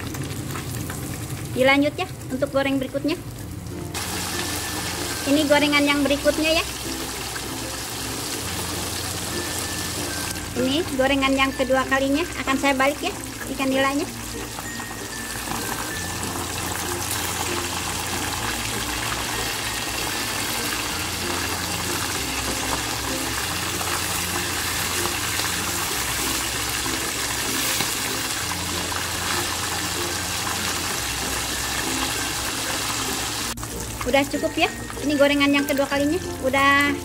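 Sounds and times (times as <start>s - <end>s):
hot oil sizzling and bubbling: 0.0s - 37.0s.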